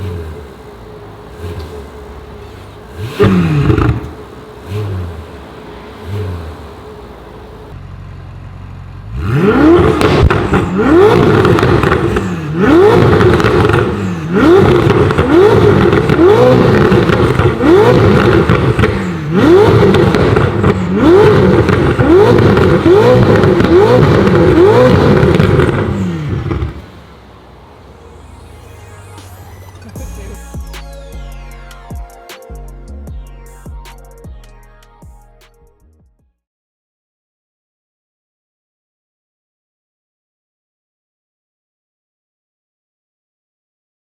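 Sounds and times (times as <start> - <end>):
sports car engine revving: 0.0 - 36.1
engine blips over idle: 0.0 - 36.2.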